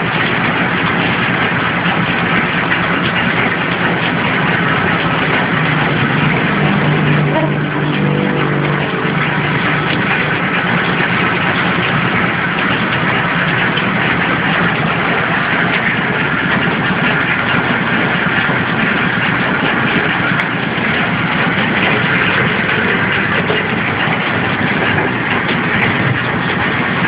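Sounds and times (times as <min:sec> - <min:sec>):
packing machine running: 0:00.0 - 0:27.0.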